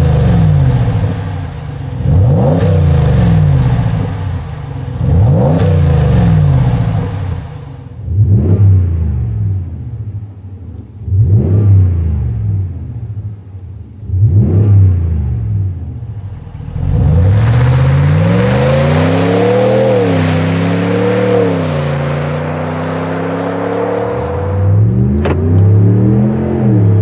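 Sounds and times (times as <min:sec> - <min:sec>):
truck engine revving: 0:00.0 - 0:10.0, 0:14.0 - 0:27.0
truck accelerating hard: 0:00.0 - 0:13.2, 0:14.1 - 0:27.0
road and wind noise: 0:00.0 - 0:27.0.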